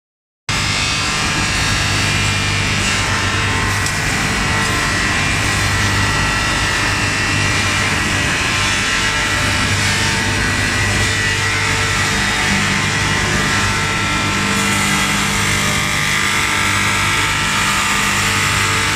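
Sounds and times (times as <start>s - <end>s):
wood-turning lathe running: 0.6s - 18.9s.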